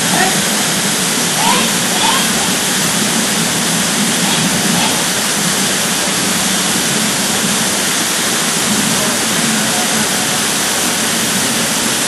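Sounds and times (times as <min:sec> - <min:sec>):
waterfall rushing loudly: 0:00.0 - 0:12.0.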